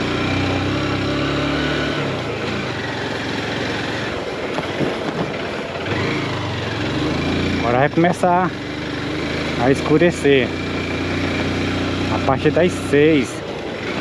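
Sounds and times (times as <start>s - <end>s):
motorcycle engine under load: 0.0s - 14.0s
wind and road noise: 0.0s - 14.0s.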